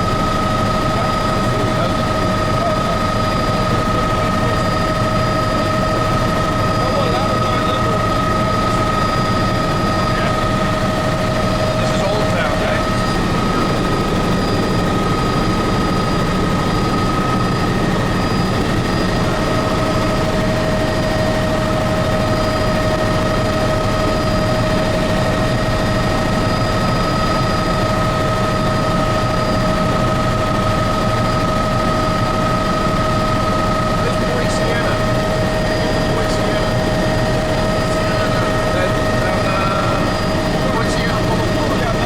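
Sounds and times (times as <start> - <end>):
helicopter rotor and engine noise: 0.0 - 42.0
steady whine: 0.0 - 42.0.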